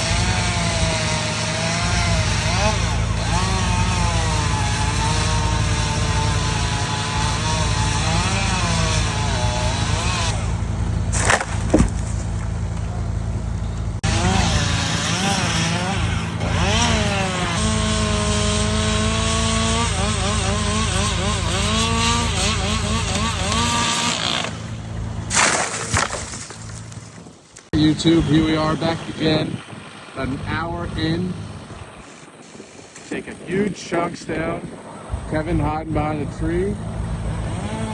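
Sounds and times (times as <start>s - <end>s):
chainsaw revving and cutting: 0.0s - 12.6s, 14.0s - 26.6s, 27.7s - 34.7s, 35.3s - 37.9s
engine droning: 0.0s - 37.9s.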